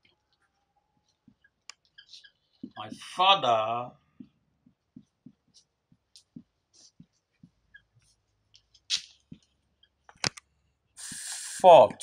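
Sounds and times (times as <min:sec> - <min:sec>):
marker writing on whiteboard: 0:00.4 - 0:03.2, 0:04.2 - 0:10.1, 0:11.0 - 0:12.0.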